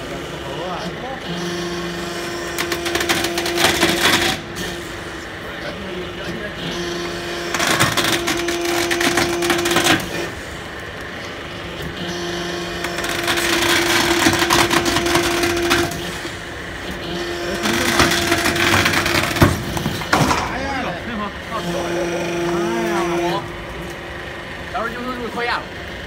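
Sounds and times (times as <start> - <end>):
hydraulic pump hum: 0.0 - 26.0.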